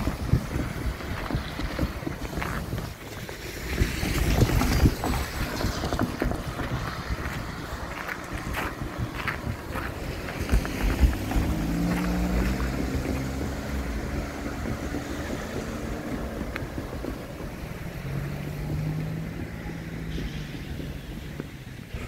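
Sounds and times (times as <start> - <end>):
vehicle engine humming: 0.0 - 22.0
wind rumble on microphone: 0.0 - 22.0.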